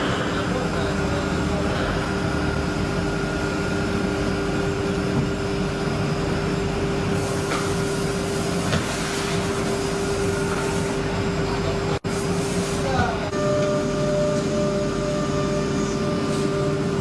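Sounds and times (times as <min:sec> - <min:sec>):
woodworking machinery humming: 0:00.0 - 0:17.0.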